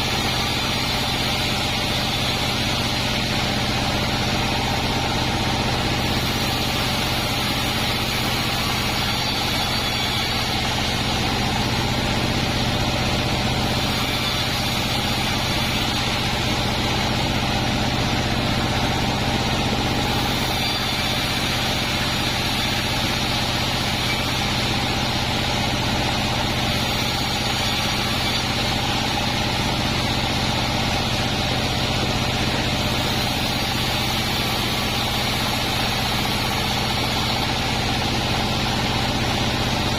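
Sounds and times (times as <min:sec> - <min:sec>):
band sawmill machine hum: 0:00.0 - 0:39.9.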